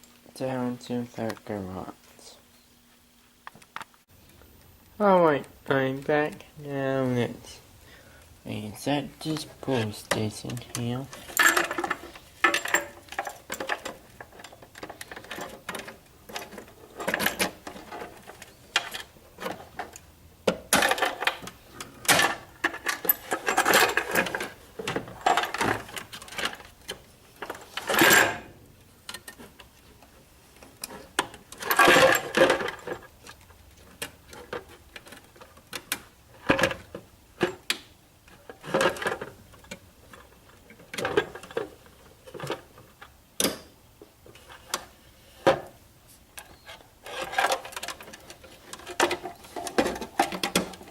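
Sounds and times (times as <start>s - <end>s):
scraping and fumbling: 8.5s - 50.9s.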